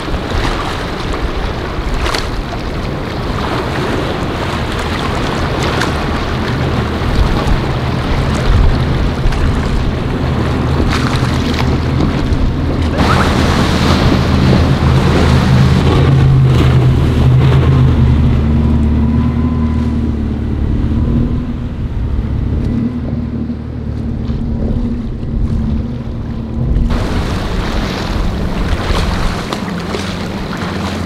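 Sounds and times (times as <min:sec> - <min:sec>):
outboard engines running: 0:00.0 - 0:31.0
rushing water and spray: 0:00.0 - 0:31.0
wind on microphone: 0:00.0 - 0:31.0.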